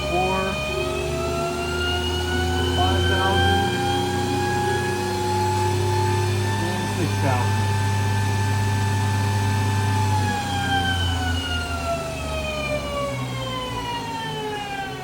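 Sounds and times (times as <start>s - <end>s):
lathe spindle whining: 0.0s - 15.0s.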